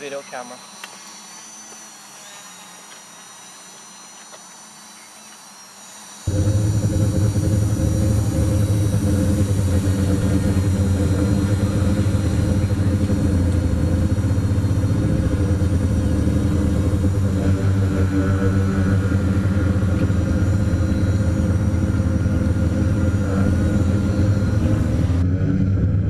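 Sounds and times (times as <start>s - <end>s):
high motor whine: 0.0s - 26.0s
quadcopter drone: 0.0s - 26.0s.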